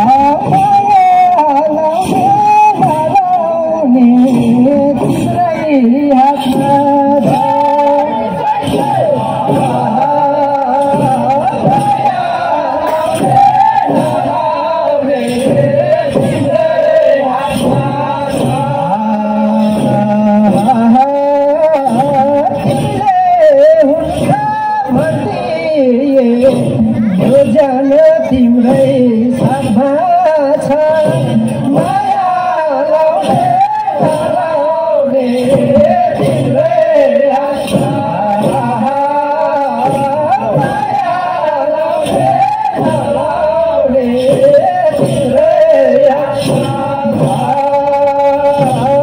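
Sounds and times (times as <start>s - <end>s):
folk dance song: 0.0s - 49.0s.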